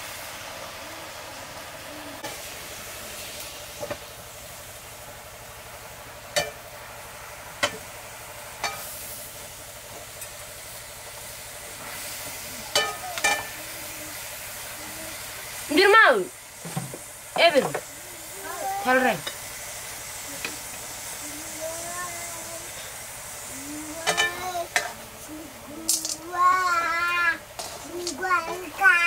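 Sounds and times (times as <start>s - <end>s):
greens sizzling in a wok: 0.0s - 29.0s.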